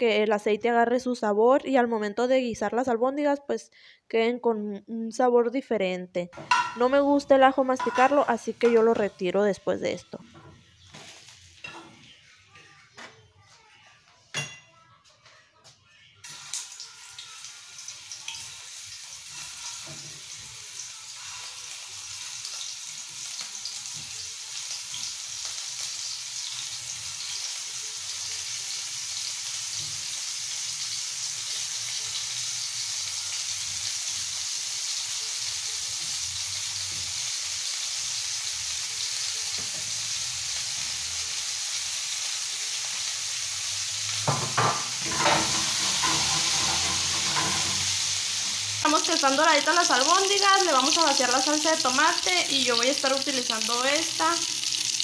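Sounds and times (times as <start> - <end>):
meatballs sizzling in hot oil: 6.4 - 12.4, 16.2 - 55.0.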